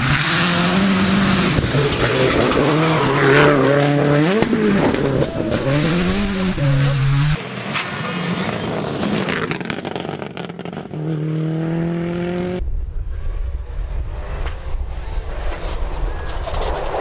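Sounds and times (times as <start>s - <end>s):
gravel and road noise: 0.0s - 17.0s
rally car engine: 0.0s - 17.0s.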